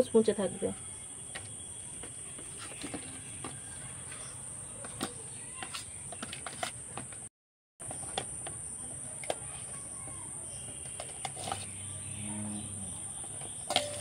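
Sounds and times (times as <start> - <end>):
crickets droning: 0.0 - 6.4, 7.8 - 14.0.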